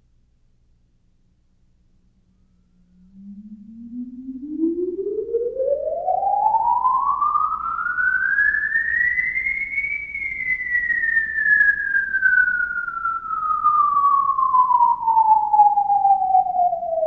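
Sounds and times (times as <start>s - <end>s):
eerie whistle-like gliding tone: 2.0s - 17.0s.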